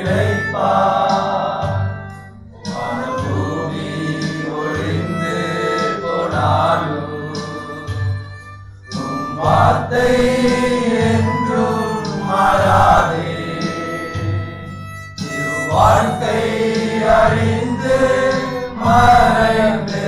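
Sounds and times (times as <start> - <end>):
music with choir singing: 0.0 - 20.0.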